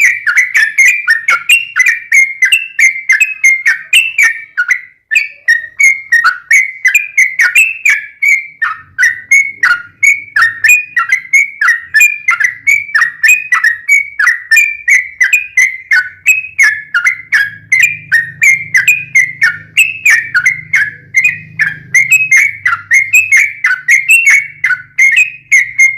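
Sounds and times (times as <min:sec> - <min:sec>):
bird whistling fast notes: 0:00.0 - 0:25.9.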